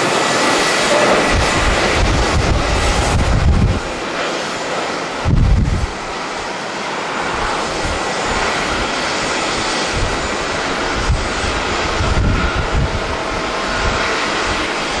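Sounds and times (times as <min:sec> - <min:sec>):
wind buffeting microphone: 0:00.0 - 0:06.5, 0:07.2 - 0:15.0
jet airliner engines climbing: 0:00.0 - 0:15.0.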